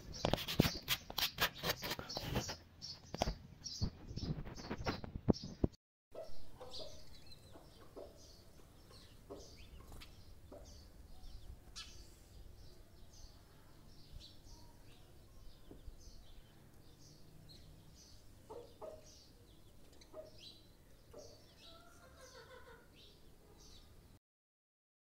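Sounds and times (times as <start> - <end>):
birds chirping: 0.0 - 24.1.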